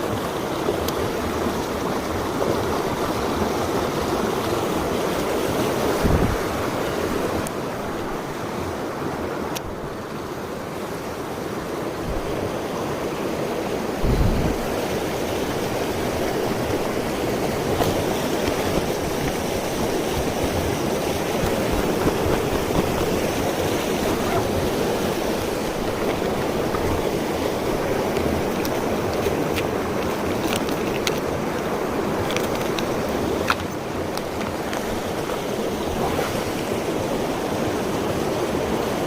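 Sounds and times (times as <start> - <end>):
water rushing over rocks: 0.0 - 39.0.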